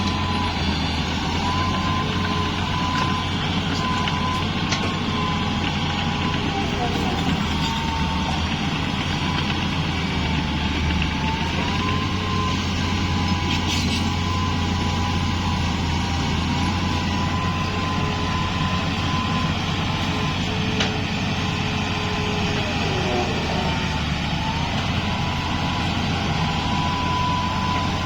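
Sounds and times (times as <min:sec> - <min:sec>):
diesel engine running under load: 0:00.0 - 0:28.0
high engine whine: 0:00.0 - 0:28.0.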